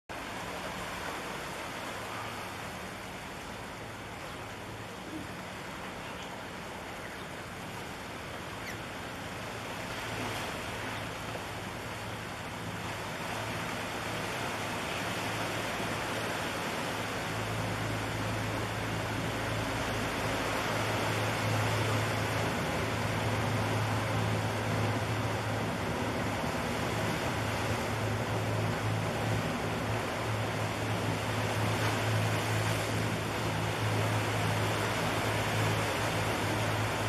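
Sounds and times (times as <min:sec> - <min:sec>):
ship engine humming: 0:00.1 - 0:37.0.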